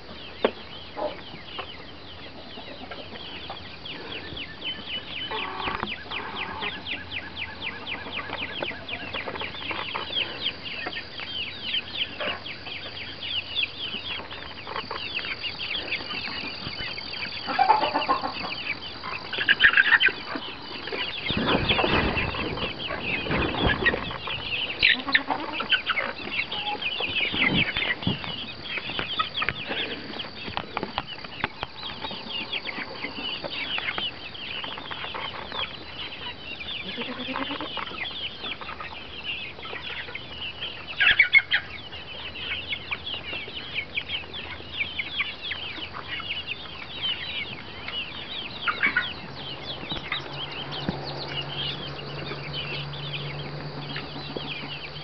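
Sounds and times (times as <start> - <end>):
chickens clucking: 0.0 - 55.0
loud chicken calls: 0.0 - 55.0.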